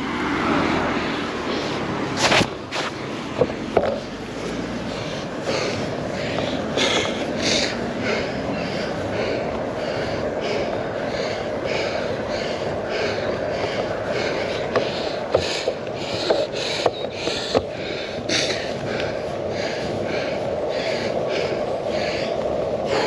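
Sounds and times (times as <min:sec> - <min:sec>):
wind rush on microphone: 0:00.0 - 0:23.0
person panting heavily: 0:00.7 - 0:23.0.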